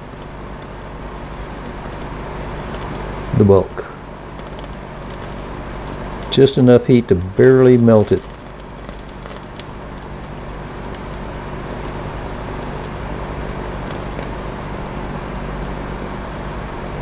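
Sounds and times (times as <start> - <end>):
torch flame rushing: 0.0 - 16.8
low hum: 0.0 - 17.0.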